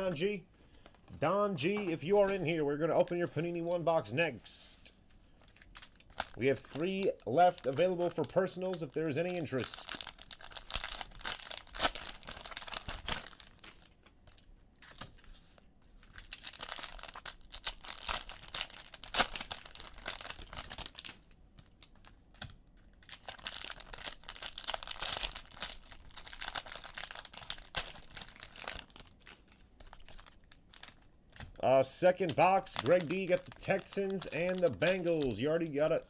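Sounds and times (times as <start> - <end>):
clicking and crinkling handling noise: 0.0 - 2.5, 4.9 - 36.0.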